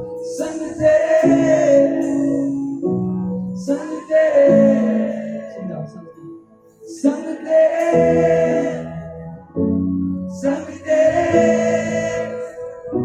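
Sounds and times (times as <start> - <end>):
group singing worship song: 0.0 - 5.6, 6.9 - 13.0
musical accompaniment: 0.0 - 13.0.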